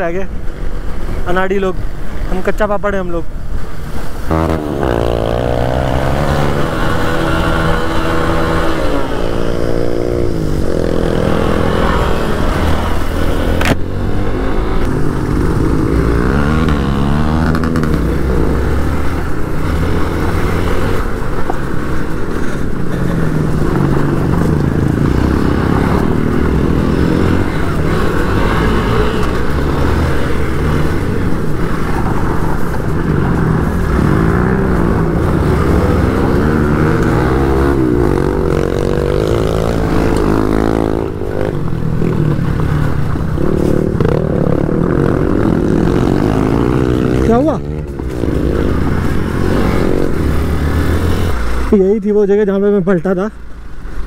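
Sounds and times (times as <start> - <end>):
motorcycle engine revving: 4.2 - 51.9.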